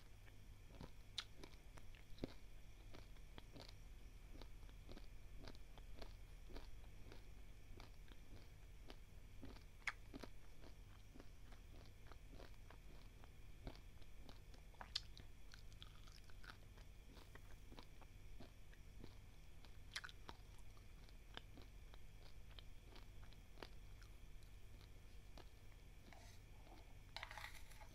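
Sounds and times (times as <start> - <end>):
dry rice being chewed: 0.0 - 27.9.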